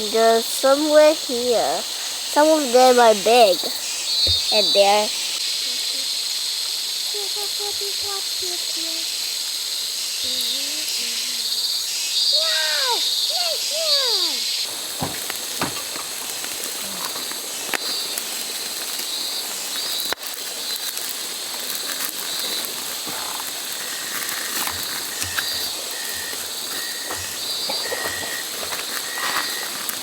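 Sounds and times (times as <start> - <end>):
flowing water hiss: 0.0 - 30.0
insects chirring: 0.0 - 30.0.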